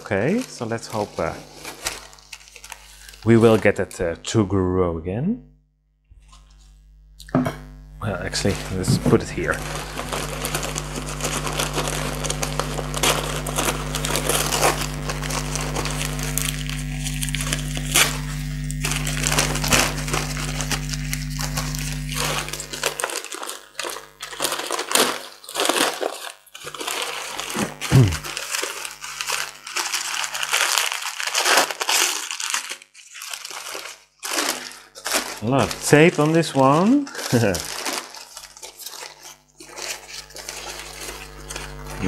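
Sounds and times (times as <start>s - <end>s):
paper packaging crinkling: 0.0s - 4.0s, 8.0s - 42.0s
steady low hum: 0.0s - 25.0s, 26.4s - 29.8s, 34.8s - 37.7s, 39.3s - 42.0s.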